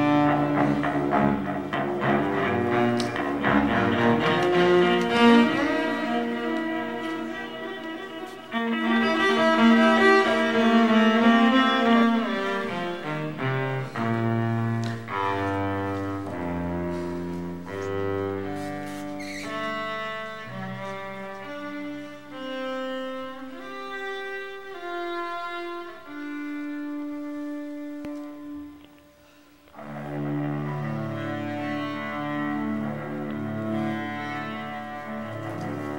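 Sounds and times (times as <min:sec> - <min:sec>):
bowed strings music: 0:00.0 - 0:35.9.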